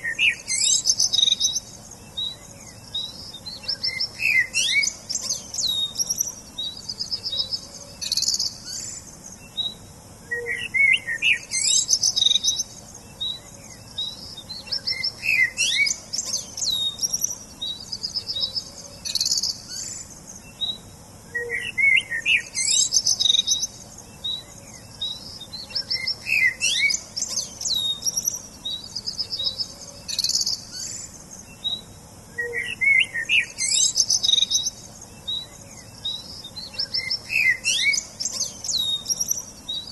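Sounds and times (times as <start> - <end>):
faint steady hiss: 0.0 - 39.9
songbirds chirping and singing: 0.0 - 39.9.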